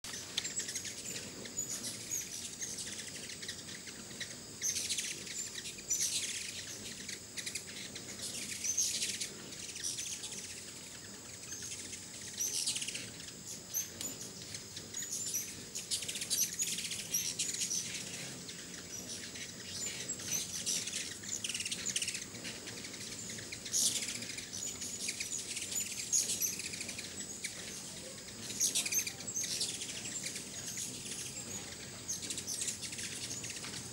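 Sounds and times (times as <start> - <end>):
hummingbird wings whirring: 0.0 - 33.9
hummingbirds chipping and twittering: 0.0 - 33.9.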